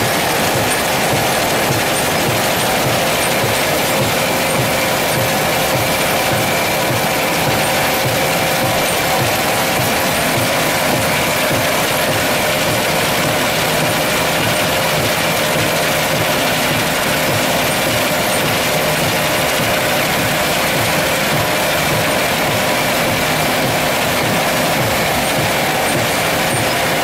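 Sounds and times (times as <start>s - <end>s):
electric motors running: 0.0s - 27.0s
separating machines running: 0.0s - 27.0s.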